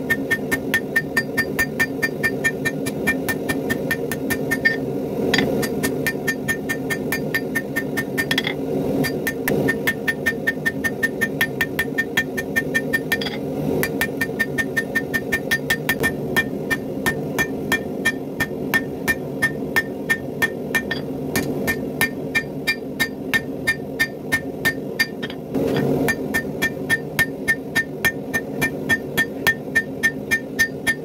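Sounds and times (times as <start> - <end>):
hammer striking steel on anvil: 0.0 - 31.0.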